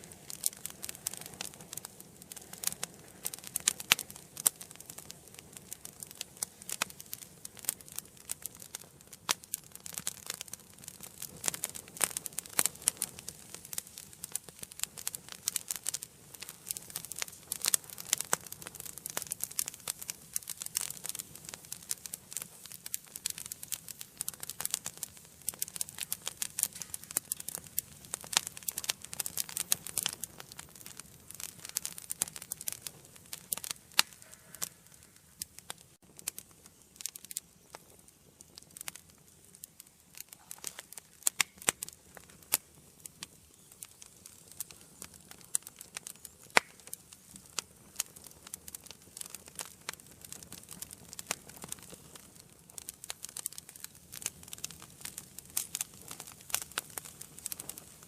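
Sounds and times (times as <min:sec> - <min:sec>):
hiss of flame: 0:00.0 - 0:58.0
wood fire crackling and popping: 0:00.0 - 0:58.0.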